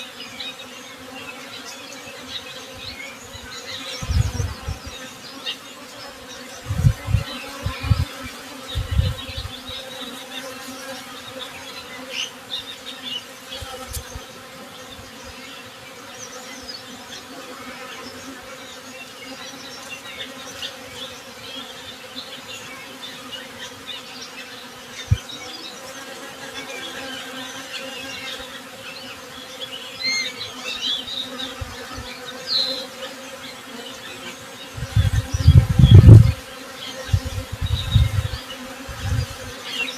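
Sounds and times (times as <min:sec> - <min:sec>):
honey bees buzzing: 0:00.0 - 0:39.9
birds chirping: 0:00.2 - 0:39.9.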